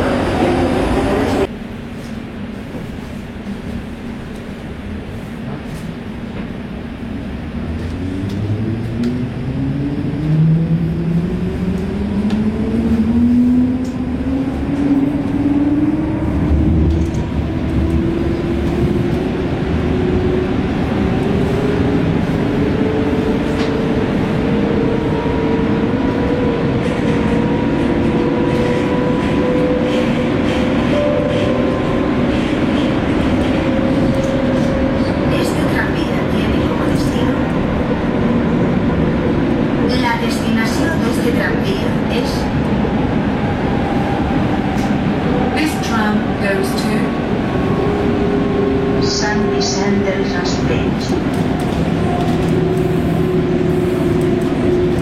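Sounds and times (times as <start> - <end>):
tram rolling rumble: 0.0 - 55.0.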